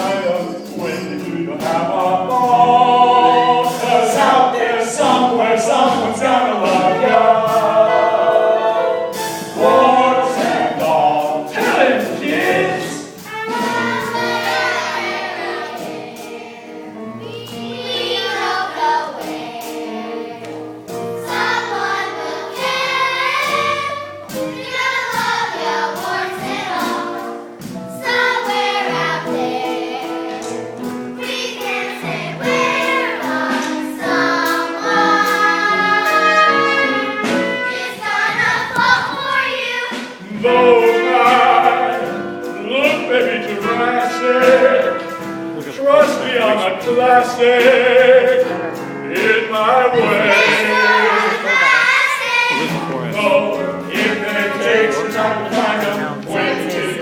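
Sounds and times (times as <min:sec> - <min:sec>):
children's chorus singing: 0:00.0 - 0:57.0
instrumental accompaniment: 0:00.0 - 0:57.0.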